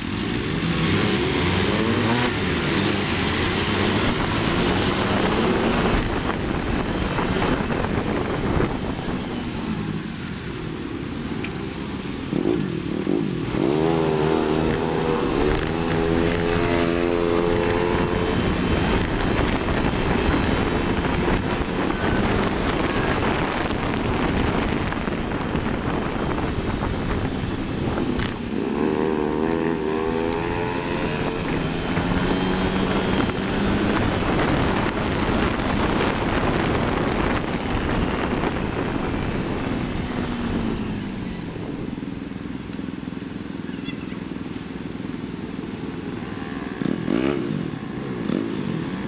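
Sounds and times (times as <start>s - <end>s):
wind rushing over microphone: 0.0s - 42.4s
motorcycle engine running: 0.0s - 49.0s.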